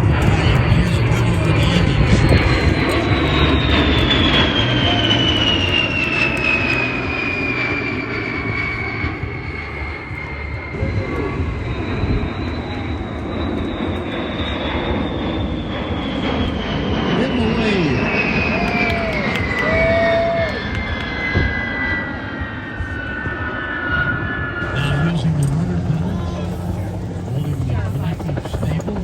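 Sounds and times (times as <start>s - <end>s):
aircraft engines running: 0.0s - 29.0s
high engine whine: 0.0s - 29.0s.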